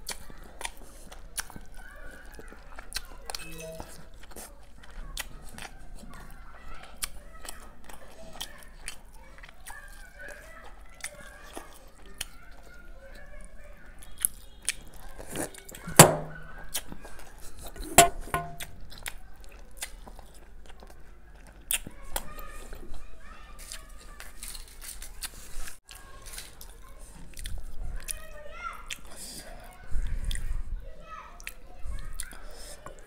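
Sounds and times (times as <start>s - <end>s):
close chewing and wet mouth sounds: 0.0s - 18.0s, 18.6s - 33.0s.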